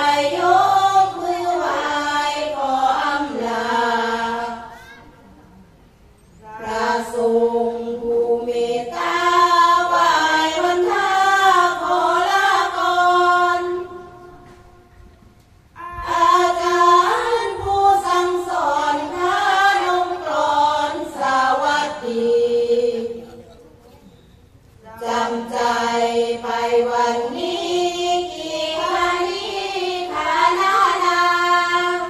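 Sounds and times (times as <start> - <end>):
women singing a chant together: 0.0 - 4.8, 6.4 - 14.5, 15.8 - 23.4, 24.8 - 32.0.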